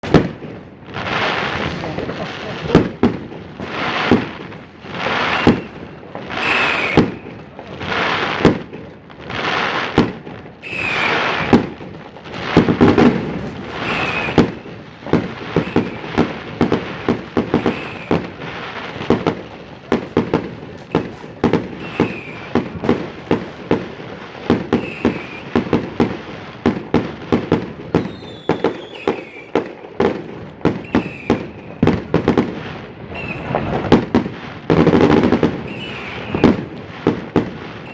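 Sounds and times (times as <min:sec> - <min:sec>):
fireworks and firecrackers banging: 0:00.0 - 0:37.9.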